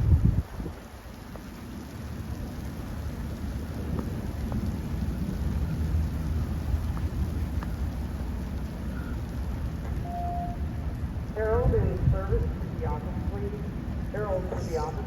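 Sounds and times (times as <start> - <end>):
low rumble of thunder: 0.0 - 15.0
rain falling: 0.0 - 15.0.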